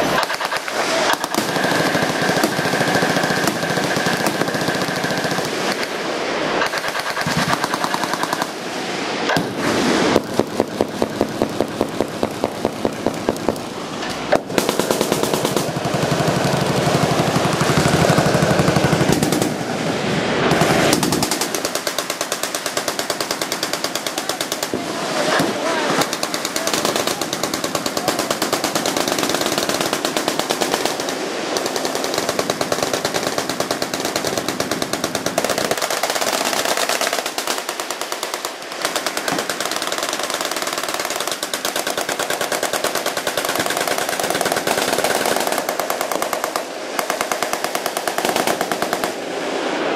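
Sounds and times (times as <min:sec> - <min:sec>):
machine guns firing bursts: 0:00.0 - 0:08.6, 0:09.3 - 0:13.8, 0:14.4 - 0:19.8, 0:20.4 - 0:49.4
heavy gunshots: 0:00.0 - 0:49.5.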